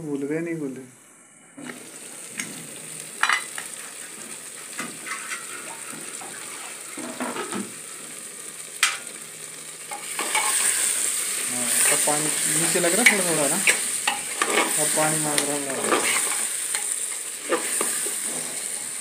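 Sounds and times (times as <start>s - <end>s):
curry sizzling in a pot: 1.1s - 19.0s.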